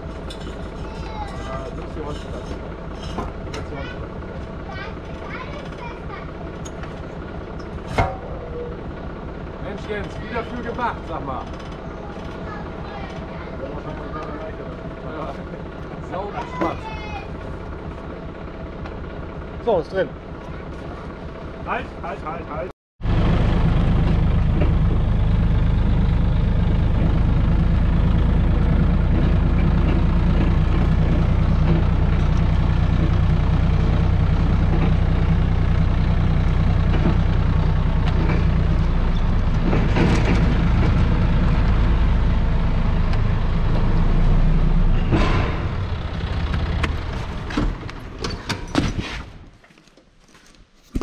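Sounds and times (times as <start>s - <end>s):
forklift engine running: 0.0s - 49.6s.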